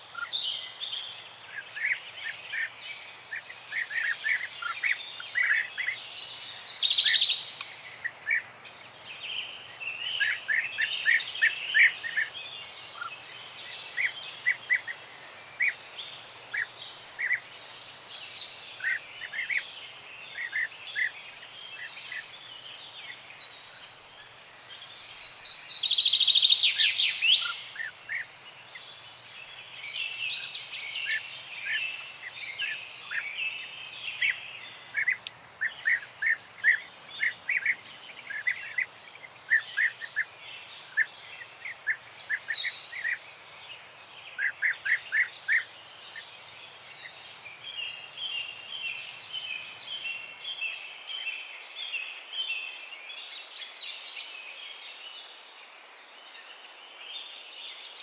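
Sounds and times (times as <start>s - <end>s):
bird trilling song: 0.0s - 55.3s
birds chirping: 0.0s - 58.0s
faint background hiss: 0.0s - 58.0s.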